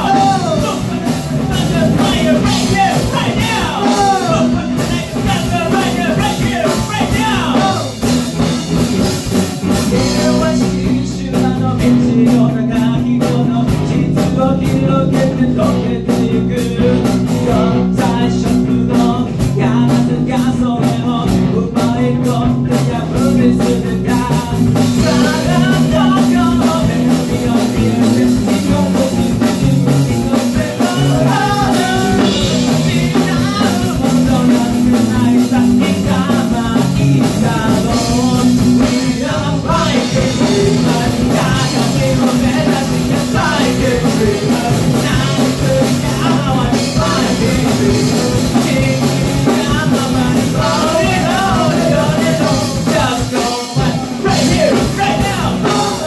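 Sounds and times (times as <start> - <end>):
bass guitar: 0.0 - 56.0
drums and cymbals: 0.0 - 56.0
electric guitar: 0.0 - 56.0.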